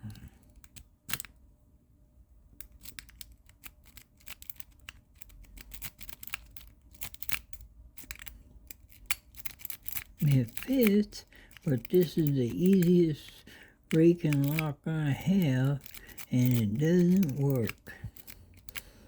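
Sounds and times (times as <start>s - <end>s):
lock pick rake clicking in lock: 0.6s - 1.3s, 2.6s - 12.9s, 13.9s - 14.7s, 15.4s - 18.9s.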